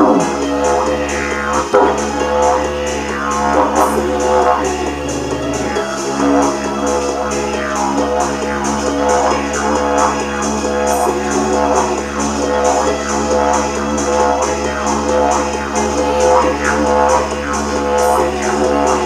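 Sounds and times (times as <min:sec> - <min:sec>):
didgeridoo drone: 0:00.0 - 0:19.0.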